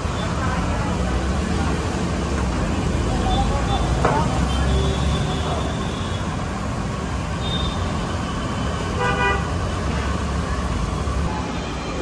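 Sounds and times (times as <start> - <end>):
batter frying in hot oil: 0.0 - 11.2.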